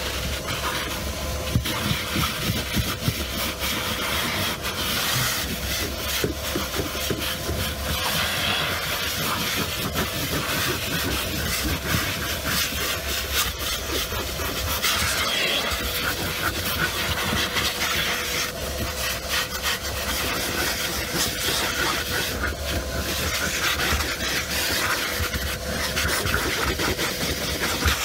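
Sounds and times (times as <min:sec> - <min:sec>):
nozzle scraping over carpet: 0:00.0 - 0:28.0
vacuum cleaner running: 0:00.0 - 0:28.0.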